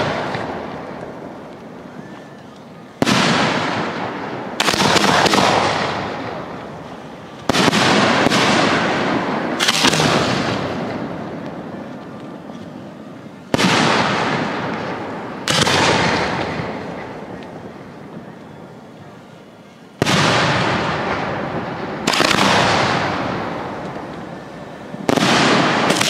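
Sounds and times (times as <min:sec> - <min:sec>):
firework booms with rolling echo: 0:00.0 - 0:02.0, 0:02.9 - 0:19.2, 0:19.9 - 0:26.0.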